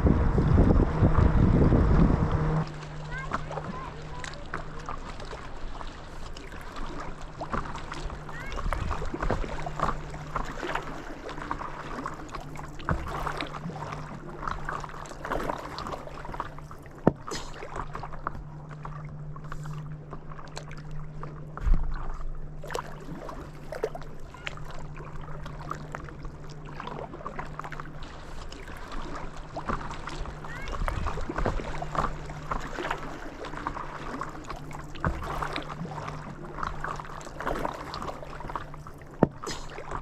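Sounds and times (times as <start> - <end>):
paddle dipping and splashing: 0.0 - 40.0
water lapping against board: 0.0 - 40.0.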